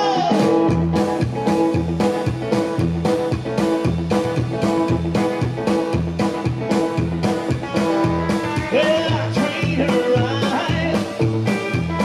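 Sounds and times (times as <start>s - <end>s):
rock and roll band playing: 0.0s - 12.0s.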